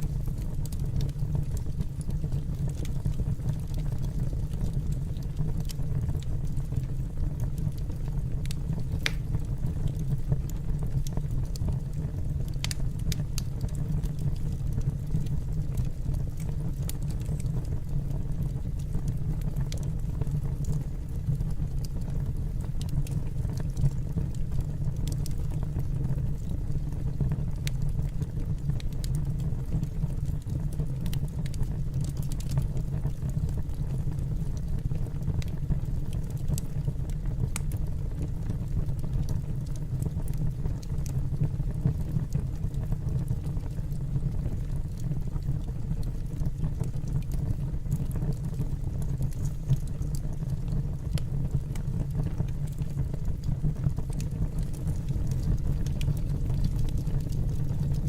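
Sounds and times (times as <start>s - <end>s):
fire crackling and popping: 0.0s - 58.0s
fire rumbling in a fireplace: 0.0s - 58.0s.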